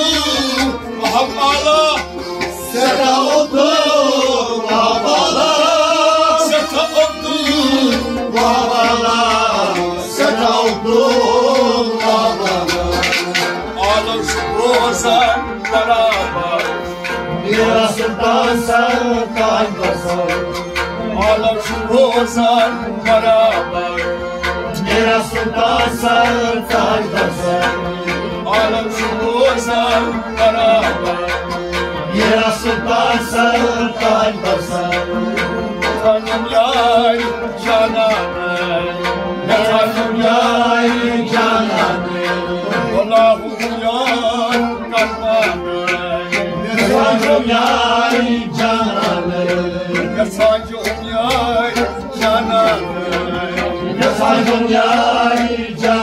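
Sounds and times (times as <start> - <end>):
tabla beat: 0.0 - 56.0.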